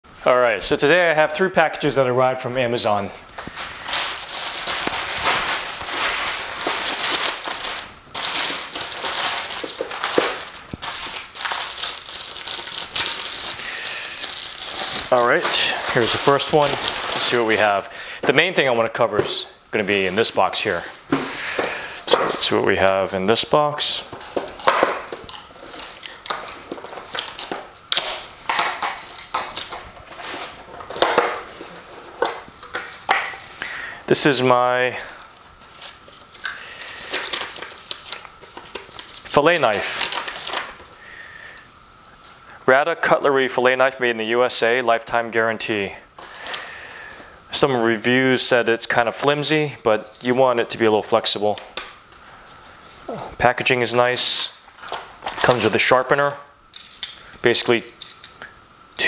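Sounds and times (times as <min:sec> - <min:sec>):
plastic mailer crinkling and rustling: 0:02.8 - 0:41.0, 0:46.2 - 0:56.3.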